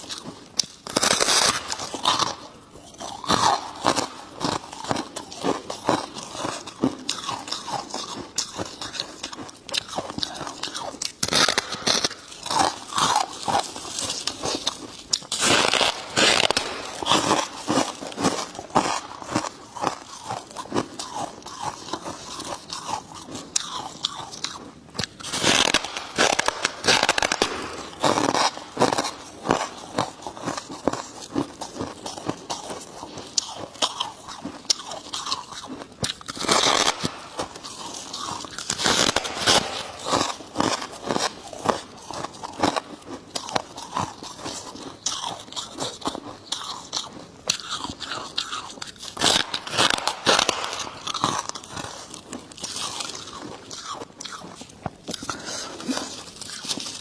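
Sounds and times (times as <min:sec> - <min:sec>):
crunching chewing of ice: 0:00.0 - 0:57.0.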